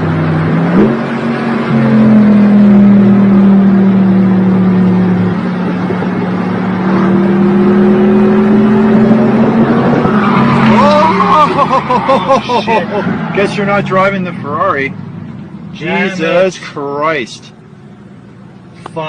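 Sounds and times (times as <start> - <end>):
car engine running at high revs: 0.0 - 19.0.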